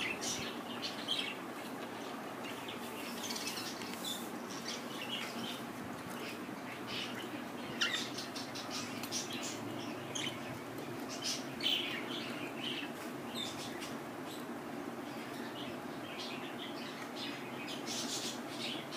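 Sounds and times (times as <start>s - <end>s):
low background hum: 0.0s - 18.9s.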